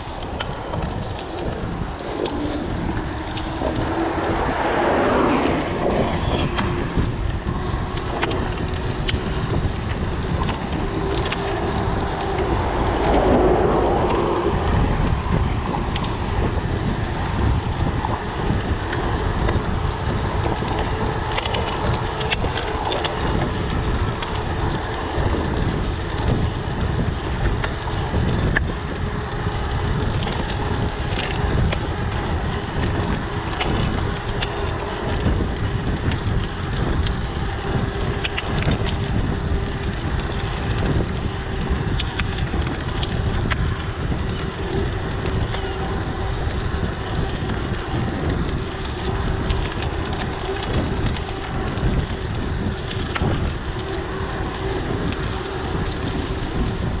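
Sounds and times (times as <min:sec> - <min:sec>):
rolling road noise: 0:00.0 - 0:57.0
wind rushing over microphone: 0:00.0 - 0:57.0
small clicks and rattles: 0:06.2 - 0:57.0.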